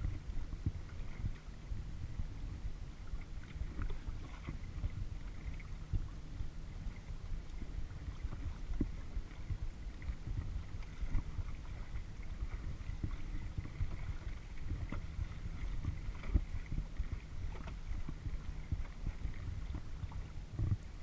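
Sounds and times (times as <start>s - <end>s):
paddle splashing water: 0.0s - 21.0s
wind rumble on microphone: 0.0s - 21.0s.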